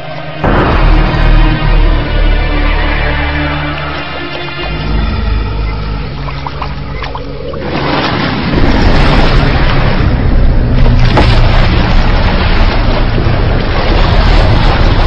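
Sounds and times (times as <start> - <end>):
deep rumble: 0.0 - 15.0
water splashing and churning: 0.0 - 15.0.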